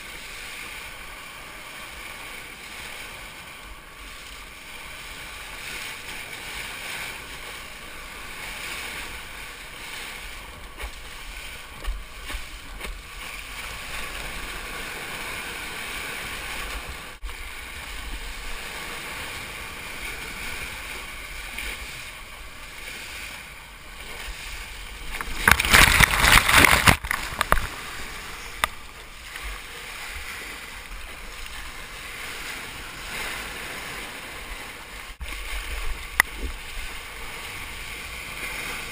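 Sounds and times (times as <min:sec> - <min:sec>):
water rushing against surfboard: 0:00.0 - 0:38.9.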